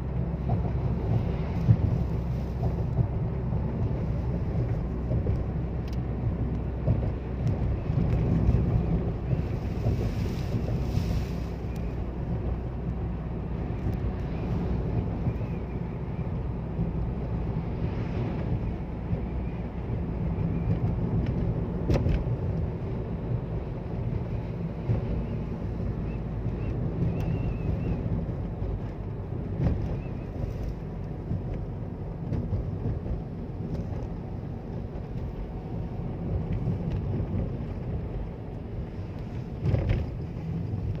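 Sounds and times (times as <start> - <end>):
road and engine rumble: 0.0 - 41.0
wind noise: 0.0 - 41.0.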